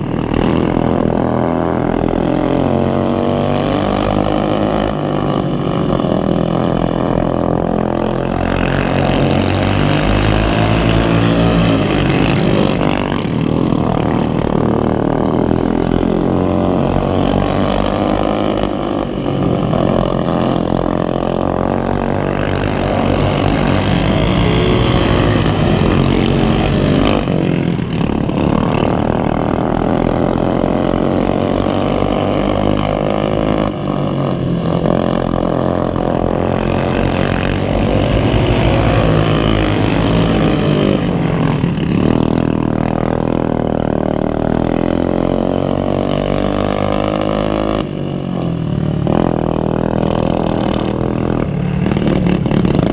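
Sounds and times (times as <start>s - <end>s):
lawnmower engines running hard: 0.0s - 52.9s.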